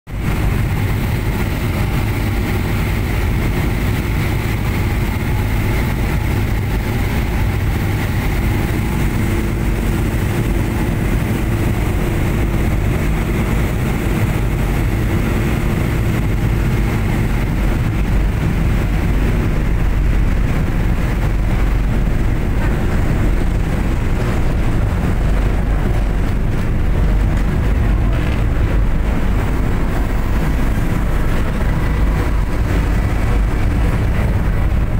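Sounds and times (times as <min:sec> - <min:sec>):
boat engines rumbling: 0:00.1 - 0:34.9
water rushing along hull: 0:00.1 - 0:34.9.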